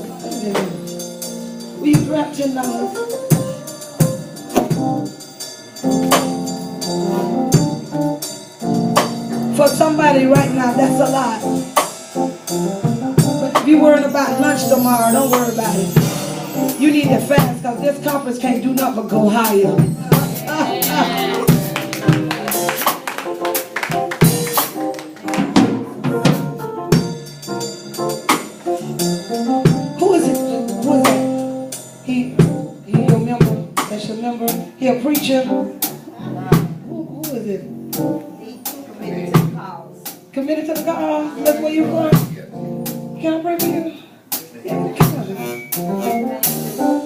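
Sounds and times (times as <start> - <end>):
drum and cymbal hits: 0.0 - 41.0, 41.6 - 47.0
church band music: 0.0 - 47.0
sustained keyboard chords: 0.0 - 47.0.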